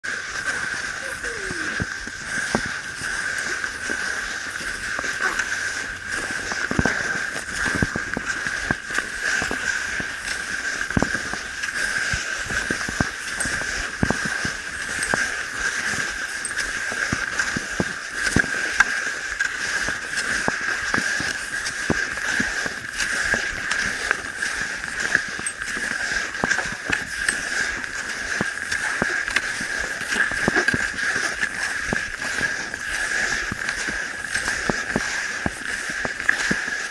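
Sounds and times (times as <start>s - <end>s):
skis gliding over snow: 0.0s - 36.9s
ski poles crunching into snow: 0.1s - 36.9s.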